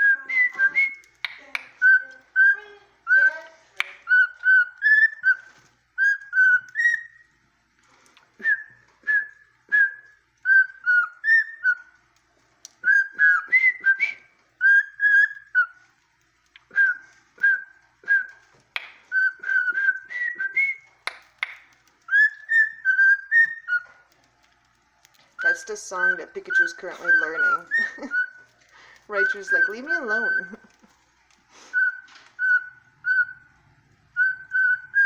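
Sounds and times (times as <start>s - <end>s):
cockatiel whistling a tune: 0.0s - 7.3s, 8.0s - 12.0s, 12.7s - 15.9s, 16.5s - 24.2s, 25.4s - 30.9s, 31.7s - 35.0s.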